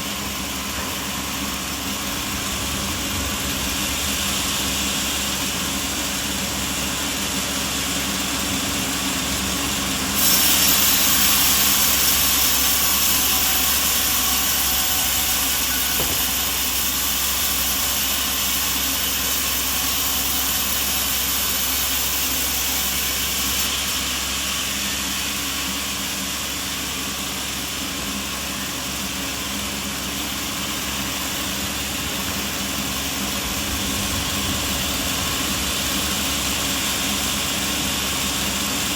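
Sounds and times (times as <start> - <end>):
loud hiss: 0.0 - 38.9
sawmill machinery humming: 0.0 - 38.9.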